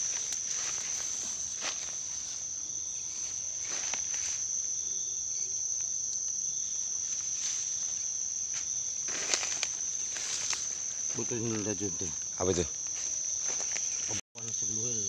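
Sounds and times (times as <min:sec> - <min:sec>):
foliage rustling: 0:00.0 - 0:04.6, 0:06.7 - 0:14.2
night insects chirring: 0:00.0 - 0:15.0.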